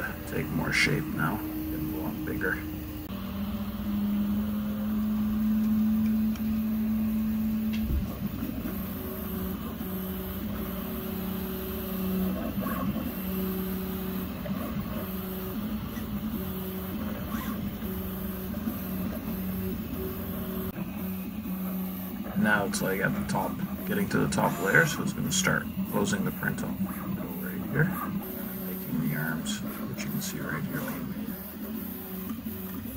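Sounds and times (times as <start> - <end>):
stepper motors whining: 0.0 - 32.9.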